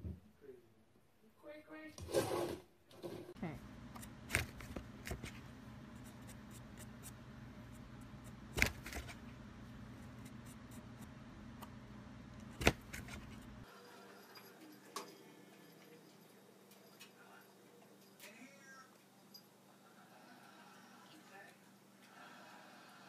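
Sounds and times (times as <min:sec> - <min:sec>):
low steady hum: 0:03.2 - 0:22.0.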